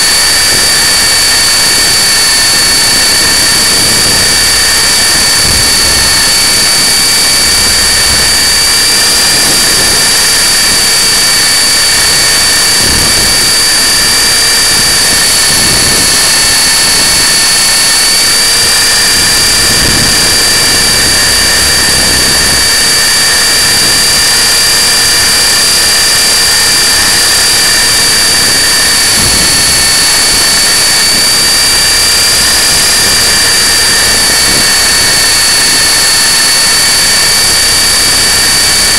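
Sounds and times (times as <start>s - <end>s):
rc helicopter motor and rotors: 0.0s - 38.9s.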